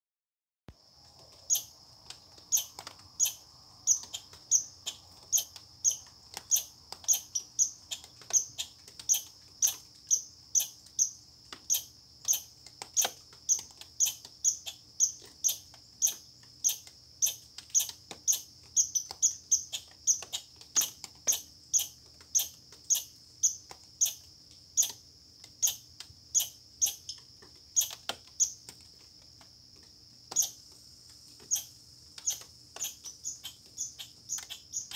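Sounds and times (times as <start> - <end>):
squirrel chirping: 1.4 - 28.7, 30.3 - 30.6, 31.4 - 34.9.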